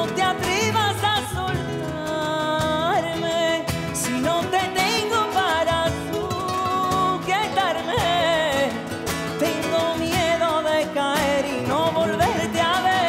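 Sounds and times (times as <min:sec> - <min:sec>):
acoustic guitar: 0:00.0 - 0:13.0
man singing: 0:00.0 - 0:13.0.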